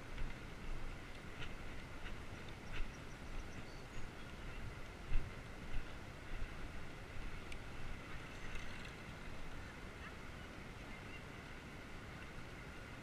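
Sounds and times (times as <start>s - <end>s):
bicycle road noise: 0.0s - 13.0s
wind rumbling on microphone: 0.0s - 13.0s.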